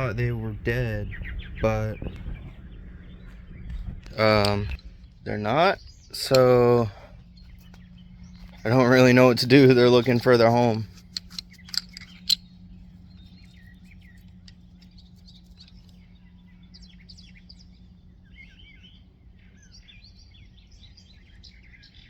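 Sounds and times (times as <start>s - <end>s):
birds chirping: 0.0s - 22.0s
low steady hum: 0.0s - 22.0s.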